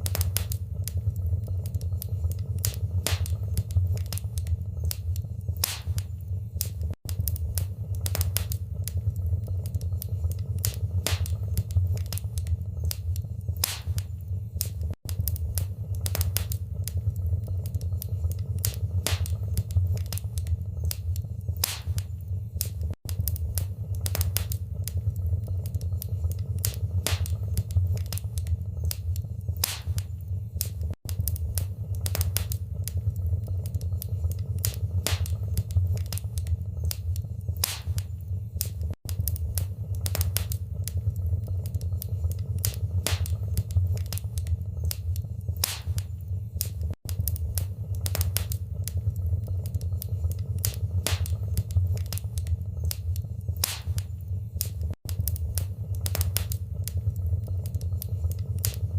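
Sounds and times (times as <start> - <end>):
sharp pops and snaps: 0.0 - 58.9
steady low rumble: 0.0 - 58.9
wood fire crackling: 0.0 - 58.9.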